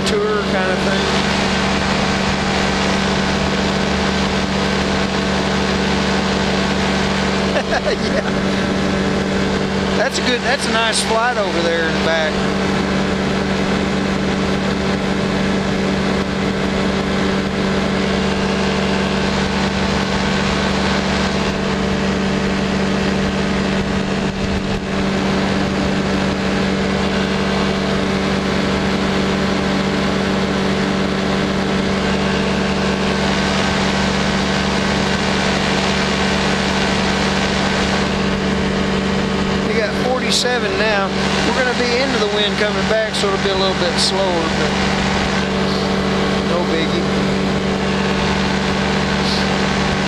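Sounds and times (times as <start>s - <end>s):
engine and propeller running: 0.0s - 50.0s.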